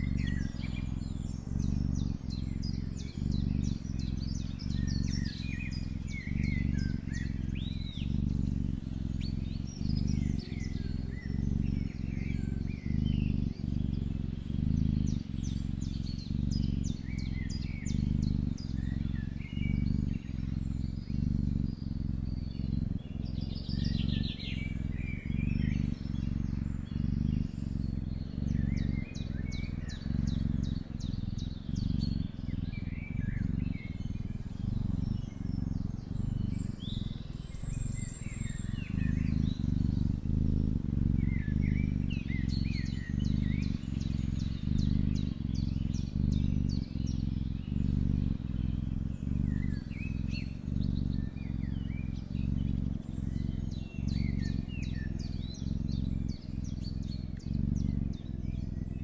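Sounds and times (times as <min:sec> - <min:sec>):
birds chirping faintly: 0:00.0 - 0:58.9
cat purring: 0:00.0 - 0:58.9.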